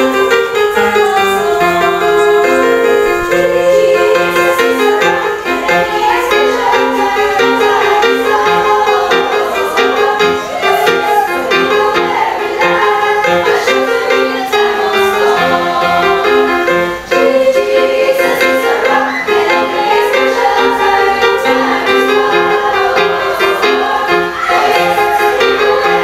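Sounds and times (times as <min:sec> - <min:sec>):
choir singing gospel: 0:00.0 - 0:26.0
instrumental accompaniment: 0:00.0 - 0:26.0.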